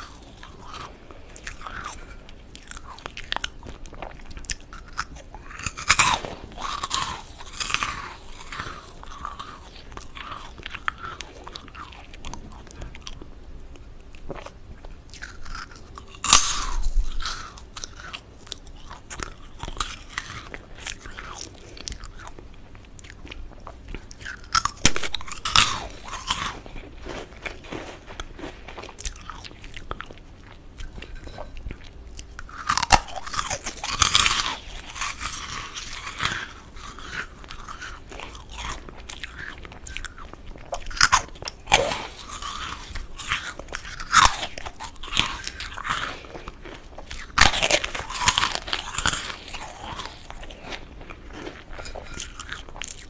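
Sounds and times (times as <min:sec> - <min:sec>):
meringue cookies crunching: 0:00.0 - 0:53.0
soft crackly chewing: 0:00.0 - 0:53.0.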